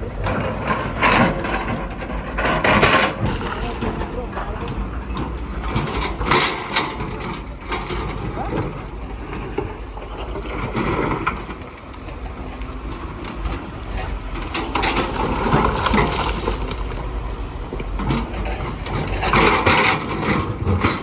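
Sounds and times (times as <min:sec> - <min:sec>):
metallic clanks and rattles: 0:00.0 - 0:11.8, 0:12.9 - 0:21.0
diesel engine rumbling: 0:00.0 - 0:21.0.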